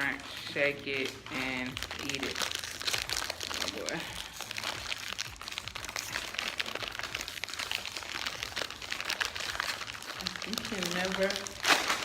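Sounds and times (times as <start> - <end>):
plastic snack packet crinkling: 0.0 - 12.0.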